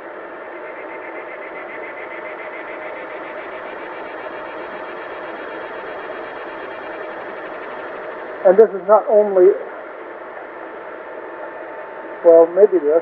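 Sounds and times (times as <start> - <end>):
faint steady tones: 0.0 - 13.0
steady background hiss: 0.0 - 13.0.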